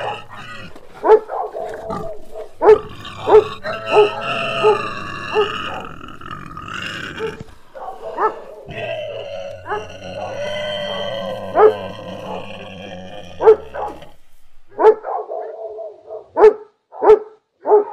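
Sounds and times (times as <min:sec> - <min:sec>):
dog barking: 0:00.0 - 0:06.0, 0:07.2 - 0:12.7, 0:13.3 - 0:17.9.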